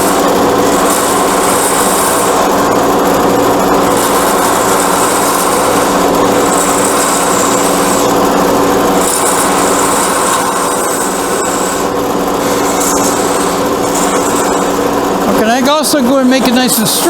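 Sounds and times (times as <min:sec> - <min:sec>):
turning tool hissing on wood: 0:00.0 - 0:17.0
wood lathe humming: 0:00.0 - 0:17.0.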